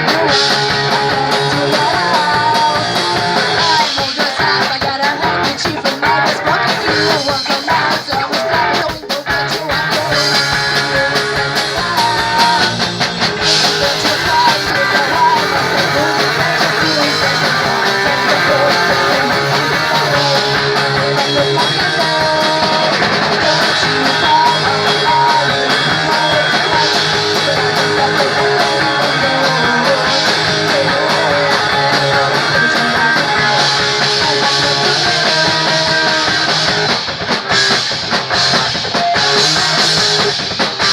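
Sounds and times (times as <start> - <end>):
punk rock band playing live: 0.0 - 40.9.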